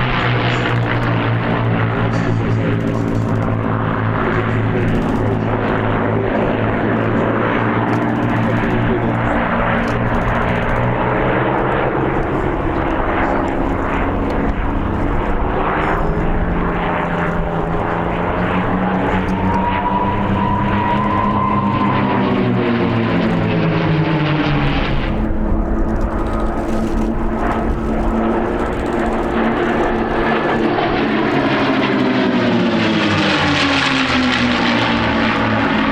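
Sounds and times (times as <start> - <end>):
propeller plane flying past: 0.0 - 35.9.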